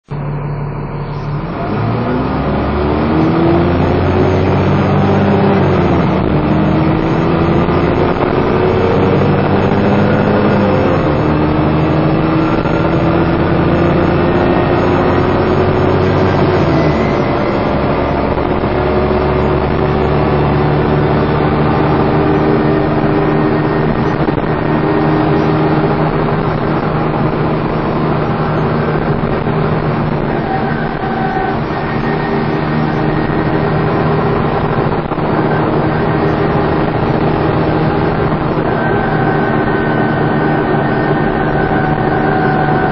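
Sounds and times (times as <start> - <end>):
bus engine accelerating: 0.0 - 42.9
whining noise over engine: 0.0 - 42.9.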